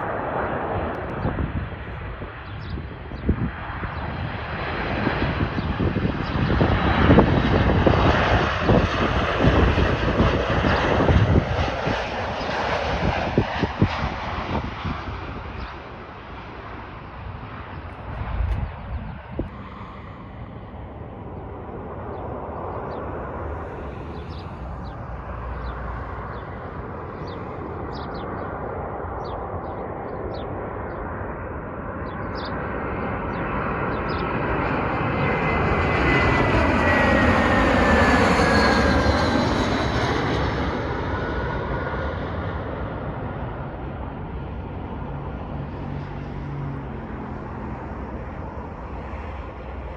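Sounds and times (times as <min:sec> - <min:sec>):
airliner passing overhead: 0:00.0 - 0:49.9
jet engine whine: 0:00.0 - 0:49.9.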